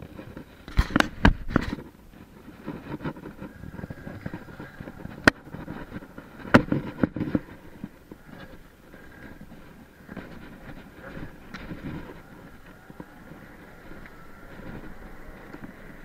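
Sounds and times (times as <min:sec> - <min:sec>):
scooter rolling on asphalt: 0:00.0 - 0:16.0.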